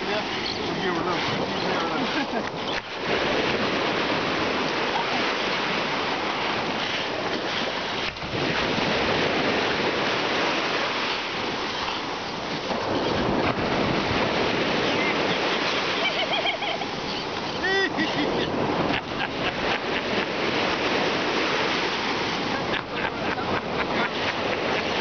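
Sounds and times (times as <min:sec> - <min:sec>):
ocean surf rushing: 0:00.0 - 0:25.0
wind on microphone: 0:00.0 - 0:25.0.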